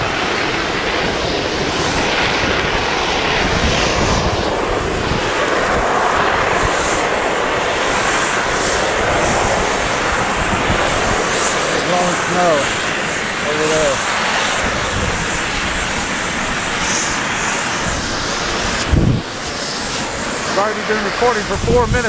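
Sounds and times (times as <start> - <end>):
wind blowing over microphone: 0.0 - 22.0.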